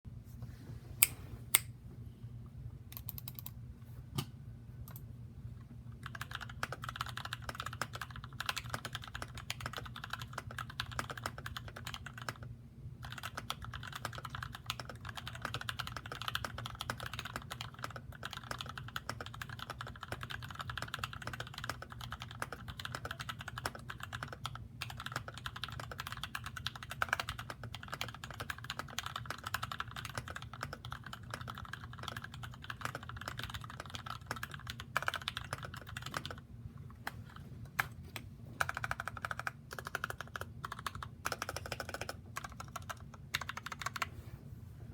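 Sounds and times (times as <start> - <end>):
steady low hum: 0.1 - 44.9
mechanical keyboard typing: 3.0 - 3.5, 6.0 - 36.4, 38.6 - 44.1.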